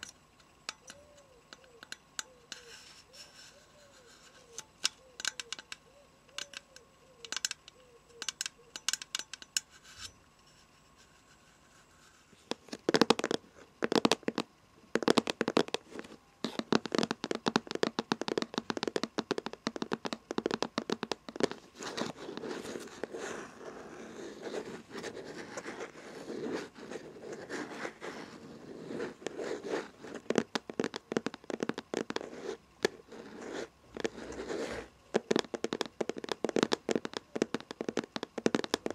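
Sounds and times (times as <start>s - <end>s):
fingernails tapping and scratching: 0.0s - 10.1s, 11.0s - 38.9s.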